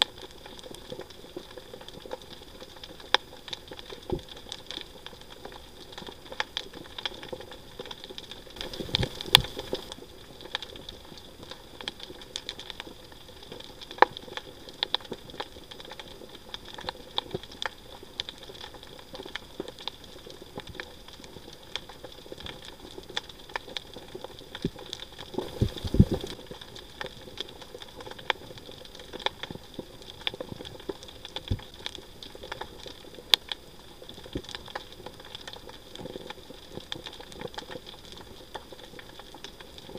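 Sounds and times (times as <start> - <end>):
underwater reef crackle: 0.0 - 39.9.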